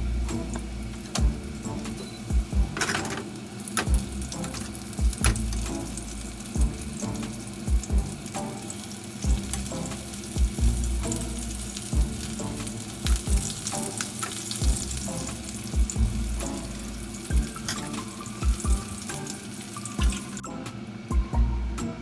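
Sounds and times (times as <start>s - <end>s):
background music with deep beat: 0.0s - 2.9s, 3.8s - 22.0s
food sizzling in a pan: 0.0s - 20.4s.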